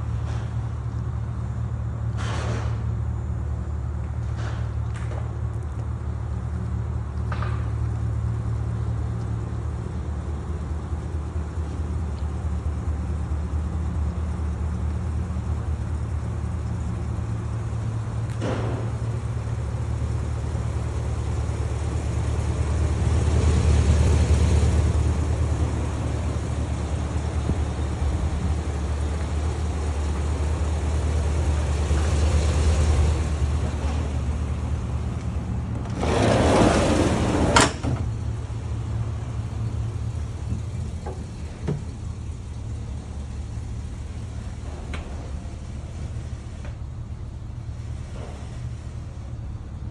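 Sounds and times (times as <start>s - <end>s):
low engine rumble: 0.0s - 49.9s.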